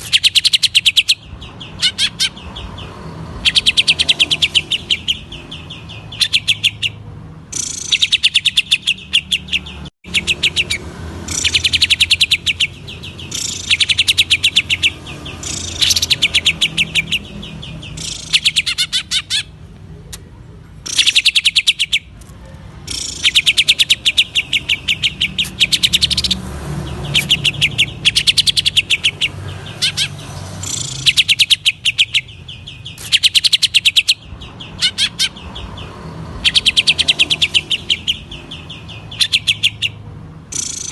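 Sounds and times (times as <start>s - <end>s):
bird singing rapid stuttering notes: 0.0s - 19.7s, 20.8s - 22.2s, 22.8s - 40.9s.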